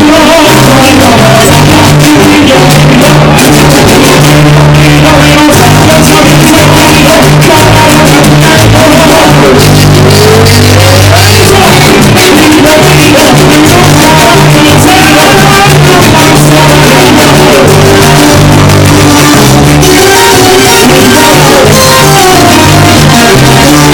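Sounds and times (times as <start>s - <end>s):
live band playing latin music: 0.0s - 23.9s
person singing: 0.0s - 23.9s.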